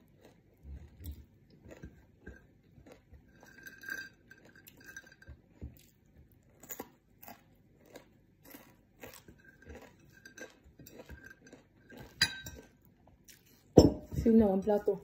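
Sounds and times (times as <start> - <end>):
chewing crispy fried fish: 0.0 - 13.7.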